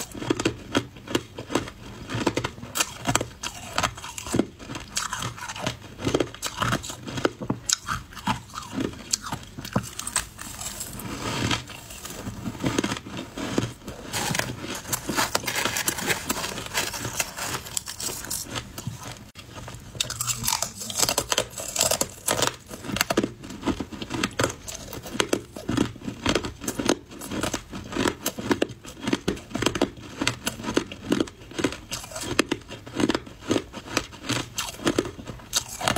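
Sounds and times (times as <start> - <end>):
ice crunching between teeth: 0.0 - 35.9.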